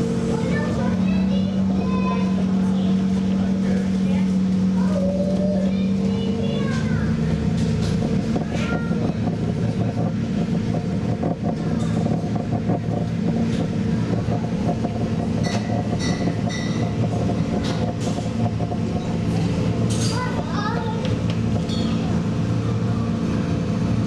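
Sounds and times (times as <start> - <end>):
low machinery drone: 0.0 - 24.0
paddle wheel churning water: 0.0 - 24.0.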